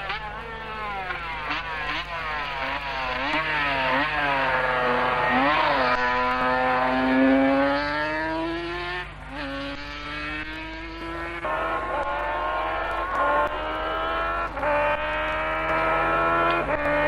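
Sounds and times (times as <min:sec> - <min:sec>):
racing engine at full throttle: 0:00.0 - 0:17.0.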